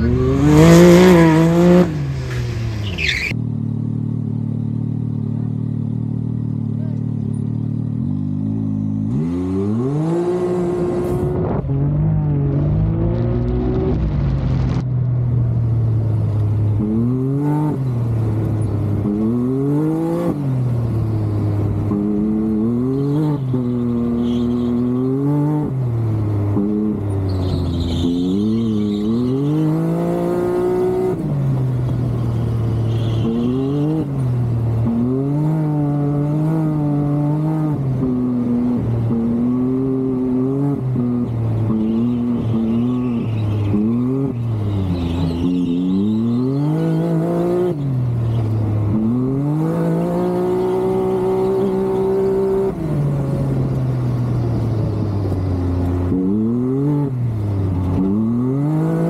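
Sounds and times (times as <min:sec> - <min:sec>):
engine revving: 0:00.0 - 0:03.1, 0:07.9 - 0:14.8, 0:16.7 - 0:59.0.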